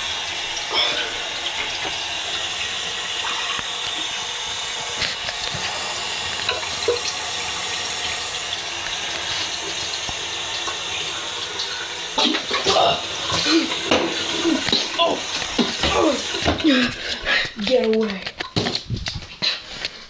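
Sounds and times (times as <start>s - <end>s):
steady hiss: 0.0s - 17.8s.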